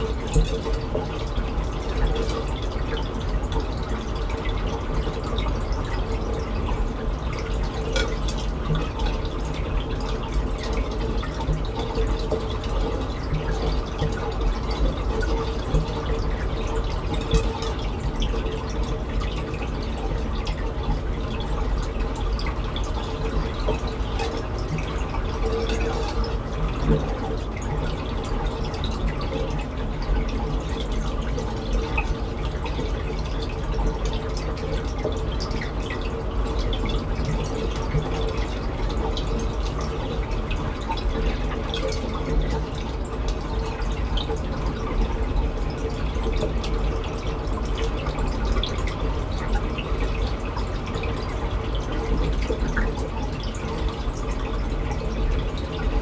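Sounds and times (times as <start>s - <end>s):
aquarium water trickling: 0.0s - 56.0s
small water splashes: 0.0s - 56.0s.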